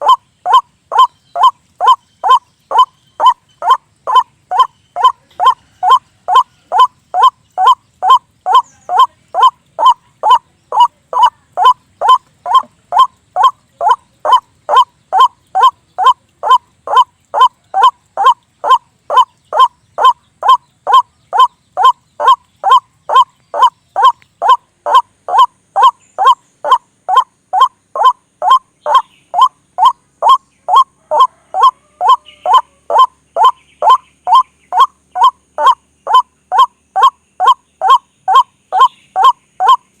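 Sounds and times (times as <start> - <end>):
waterhen harsh repeated call: 0.0 - 40.0.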